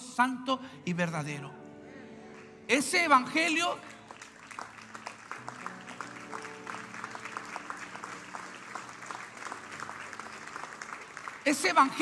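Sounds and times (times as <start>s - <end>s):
congregation applauding: 2.3s - 12.0s.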